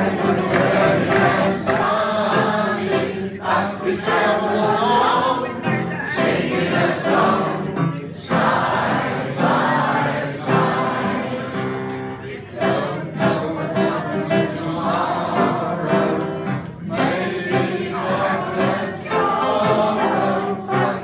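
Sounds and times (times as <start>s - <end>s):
elderly choir singing: 0.0s - 21.0s.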